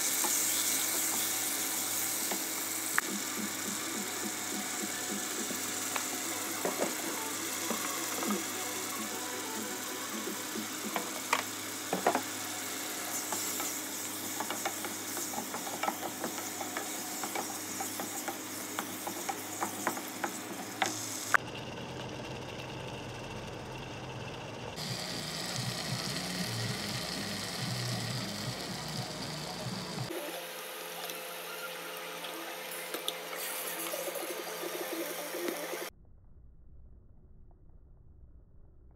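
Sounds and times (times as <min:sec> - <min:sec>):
frying hiss: 0:00.0 - 0:21.4, 0:24.8 - 0:35.9.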